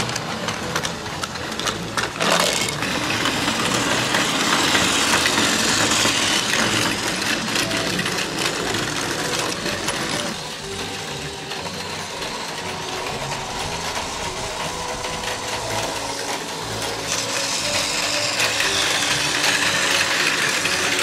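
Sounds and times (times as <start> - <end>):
toy train motors whirring: 0.0 - 21.0
wheels rattling on rails: 0.0 - 21.0.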